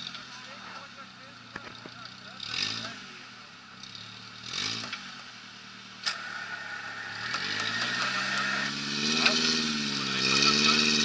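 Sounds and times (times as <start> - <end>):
truck engine revving: 1.8 - 11.0.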